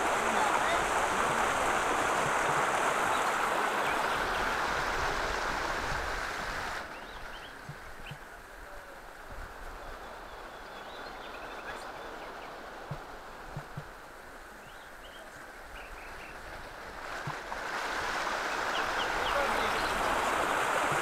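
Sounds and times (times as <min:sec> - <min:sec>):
flowing river water: 0:00.0 - 0:21.0
water rushing over rocks: 0:00.0 - 0:21.0.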